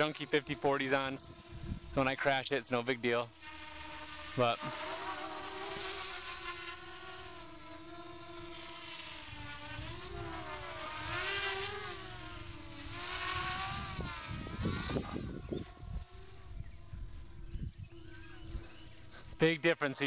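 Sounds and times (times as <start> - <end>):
quadcopter buzzing whine: 0.0 - 20.0.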